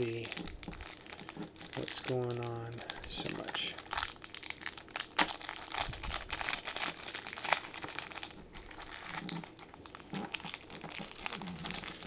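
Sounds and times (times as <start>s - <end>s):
wrapper crinkling: 0.0s - 12.0s.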